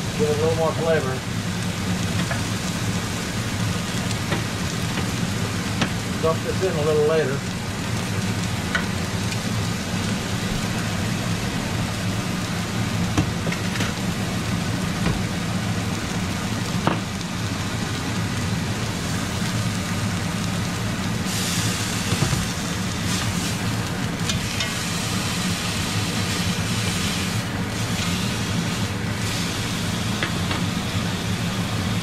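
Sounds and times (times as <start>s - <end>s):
meat sizzling in a skillet: 0.0s - 32.0s.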